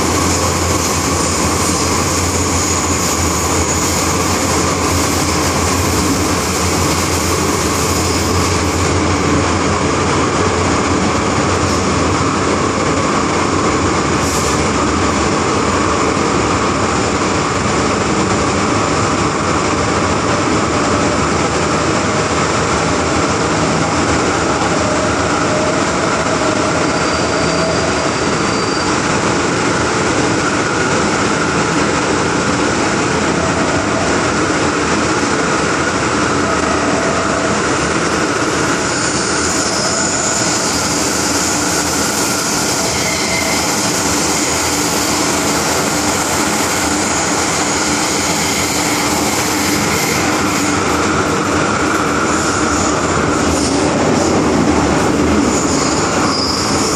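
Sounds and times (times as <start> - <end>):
train wheels rumbling on rail: 0.0 - 56.9.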